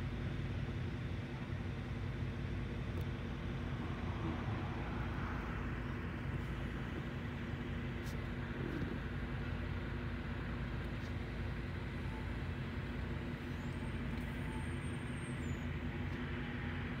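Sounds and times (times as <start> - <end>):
car engine humming: 0.0 - 17.0
road and traffic noise: 0.0 - 17.0.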